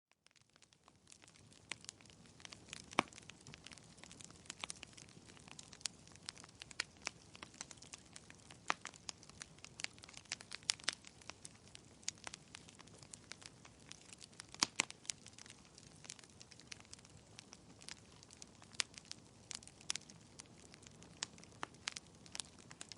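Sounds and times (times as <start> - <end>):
wood fire crackling: 0.1 - 22.9.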